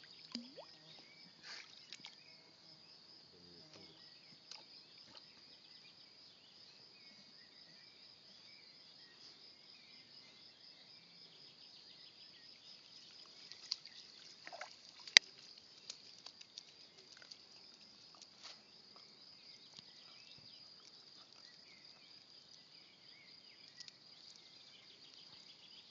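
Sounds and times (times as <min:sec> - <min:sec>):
insects chirring in grass: 0:00.0 - 0:25.9.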